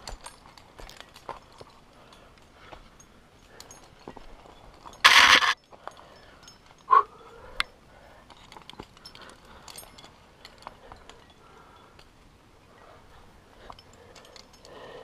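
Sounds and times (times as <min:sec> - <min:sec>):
climbing gear clinking: 0:00.0 - 0:15.0.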